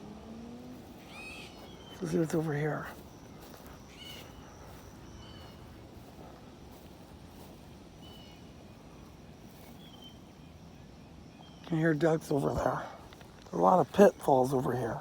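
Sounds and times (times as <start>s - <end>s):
distant ducks calling: 0.0s - 13.0s
steady low background noise: 0.0s - 15.0s.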